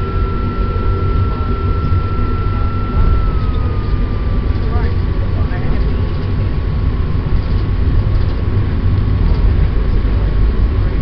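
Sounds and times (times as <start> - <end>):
train rumble from inside: 0.0 - 11.0.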